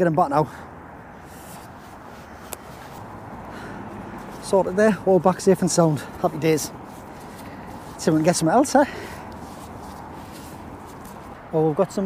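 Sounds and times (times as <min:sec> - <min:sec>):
open-air background hiss: 0:00.0 - 0:12.0
steady wind: 0:00.0 - 0:12.0.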